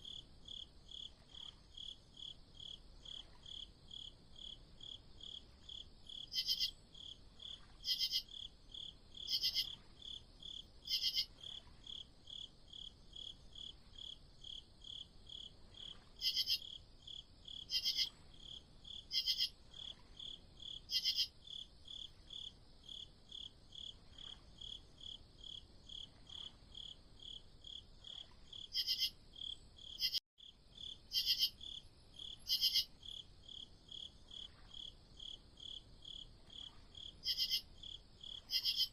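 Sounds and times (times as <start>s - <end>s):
crickets chirping: 0.0s - 38.9s
higher trilling cricket chirp: 0.0s - 38.9s.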